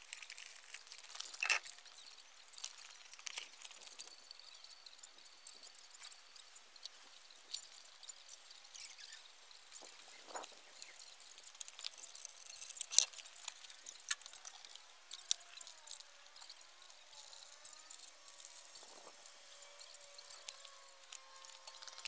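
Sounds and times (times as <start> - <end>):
metal parts clicking and clinking: 0.0 - 22.0.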